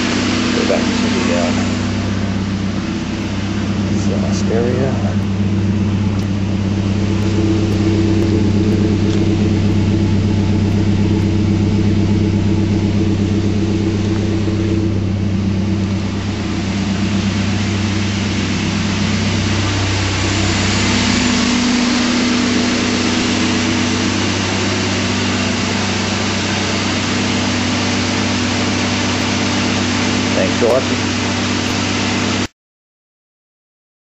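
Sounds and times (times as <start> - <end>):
car engine idling: 0.0 - 32.5.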